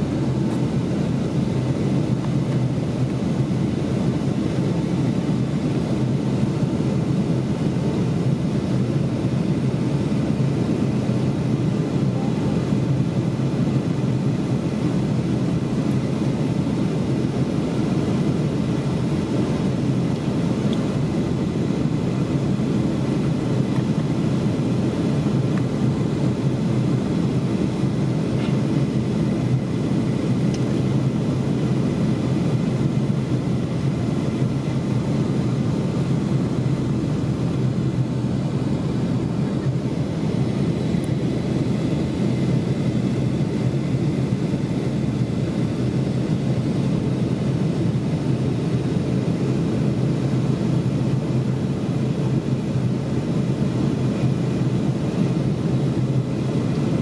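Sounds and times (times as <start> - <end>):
airplane cabin noise: 0.0 - 57.0
faint steady whine: 0.0 - 57.0.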